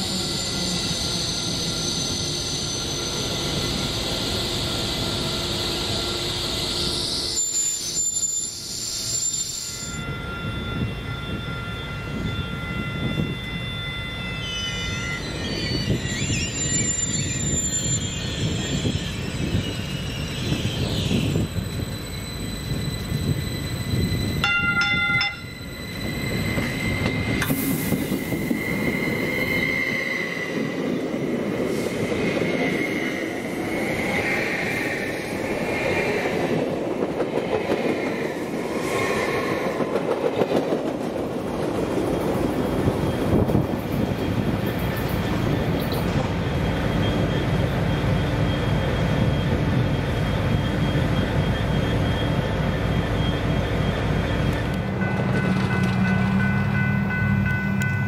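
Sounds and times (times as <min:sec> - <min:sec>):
railroad cars rumbling: 0:00.0 - 0:58.0
train wheels squealing on rails: 0:00.0 - 0:58.0.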